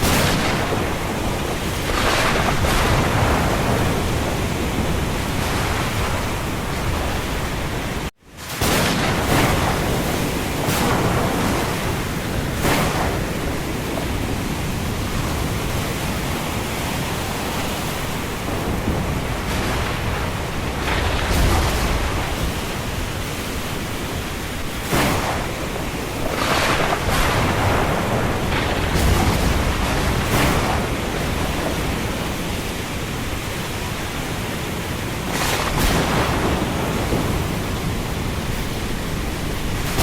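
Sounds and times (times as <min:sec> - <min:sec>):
rain and wind rushing: 0:00.0 - 0:40.0
thunder rumble: 0:00.0 - 0:40.0.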